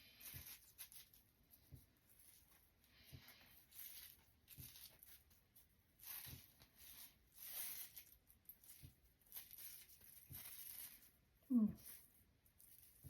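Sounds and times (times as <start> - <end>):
hair rustling and brushing: 0.0 - 13.0.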